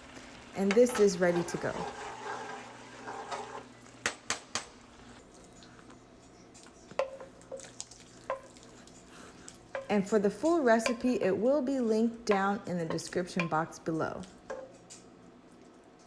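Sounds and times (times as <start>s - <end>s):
light sizzle: 0.0s - 16.0s.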